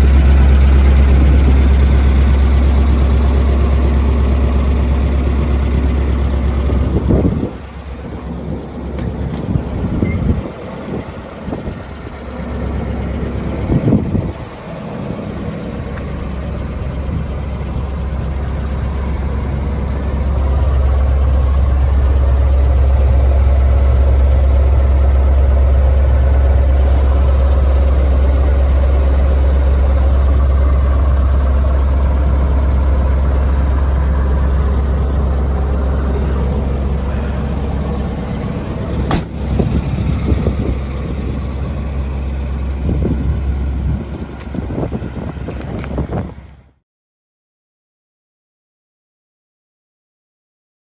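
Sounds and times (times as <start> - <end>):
car engine idling: 0.0 - 46.8.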